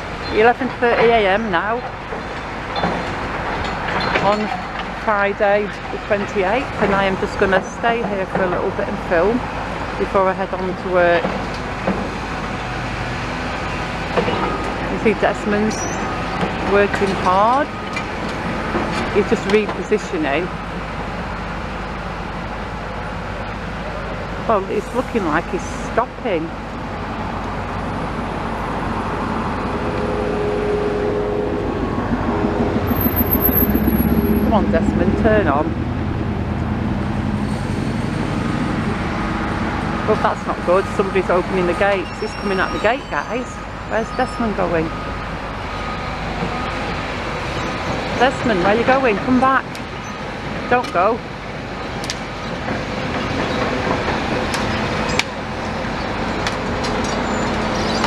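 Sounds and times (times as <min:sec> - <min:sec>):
heavy vehicle engine rumbling: 0:00.0 - 0:58.0
steel tracks clanking: 0:00.0 - 0:58.0.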